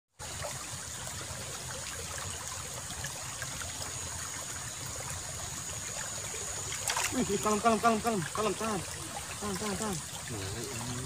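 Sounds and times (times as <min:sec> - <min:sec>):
water trickling in ditch: 0:00.1 - 0:11.0.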